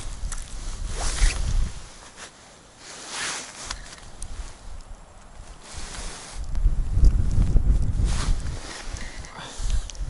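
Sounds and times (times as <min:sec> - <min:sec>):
fishing rod handling rustle: 0:00.0 - 0:10.0.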